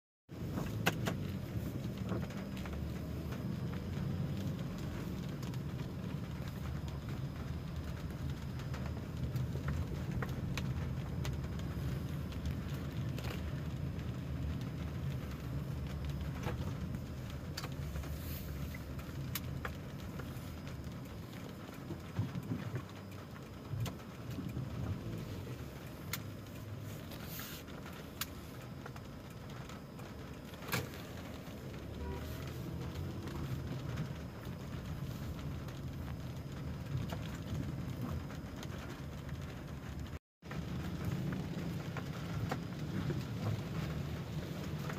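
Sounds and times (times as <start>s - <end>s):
engine and tyres rumbling: 0.2s - 44.9s
raindrops tapping on car: 0.3s - 44.9s.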